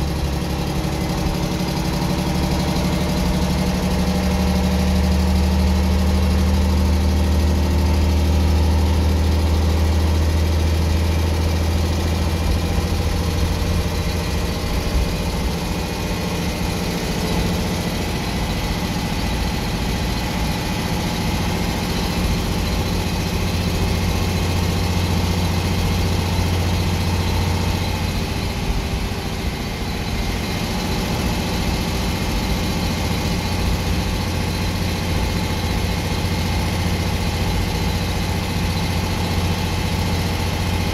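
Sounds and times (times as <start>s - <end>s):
bus diesel engine drone: 0.0s - 40.9s.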